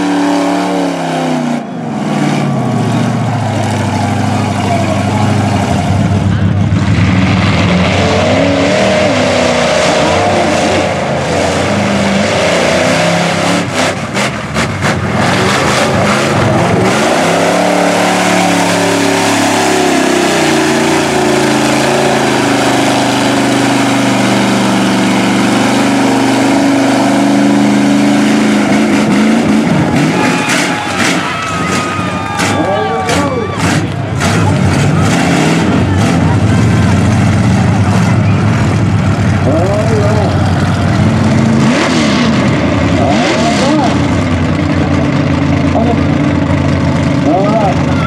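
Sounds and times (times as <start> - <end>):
truck engine revving: 0.0 - 48.0.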